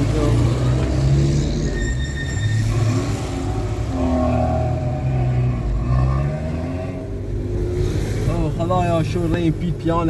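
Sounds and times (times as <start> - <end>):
car engine accelerating: 0.0 - 2.0, 2.6 - 10.0.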